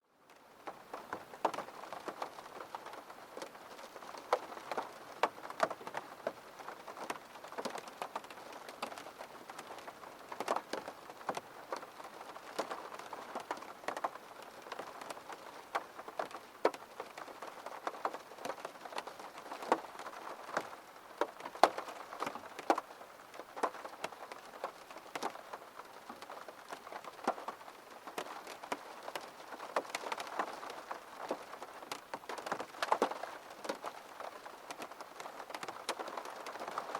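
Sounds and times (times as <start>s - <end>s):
rain pattering on a window: 0.0s - 36.9s.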